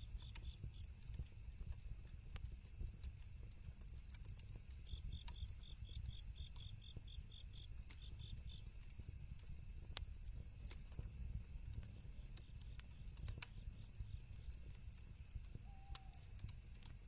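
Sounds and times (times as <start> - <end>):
campfire crackling and popping: 0.0 - 17.0
crickets chirping: 0.0 - 17.0.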